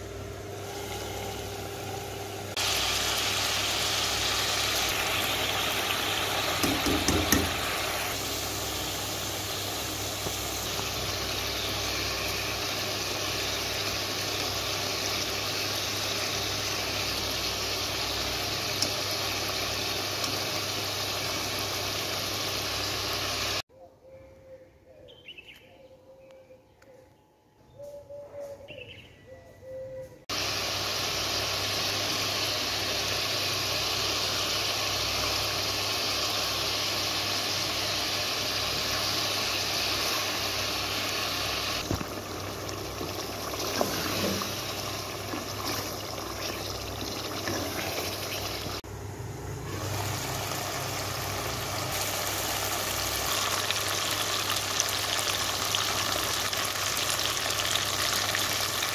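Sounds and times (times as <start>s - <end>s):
food sizzling and bubbling in a pan: 0.0s - 23.6s, 30.3s - 48.9s, 49.5s - 58.9s.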